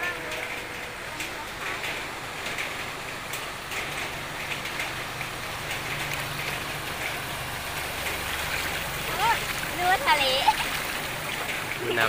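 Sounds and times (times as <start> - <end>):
tyres sloshing through water: 0.0 - 12.0.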